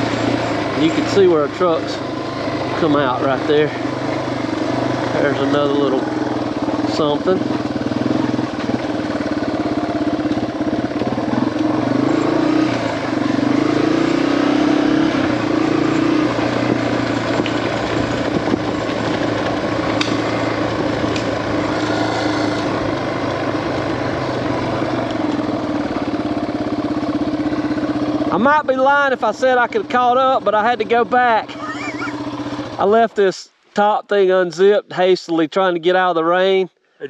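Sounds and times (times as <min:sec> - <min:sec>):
motorcycle engine running: 0:00.0 - 0:33.1.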